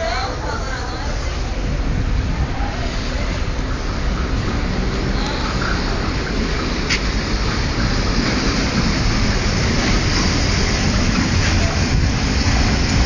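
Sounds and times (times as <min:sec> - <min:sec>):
train rumbling and rattling: 0:00.0 - 0:13.0.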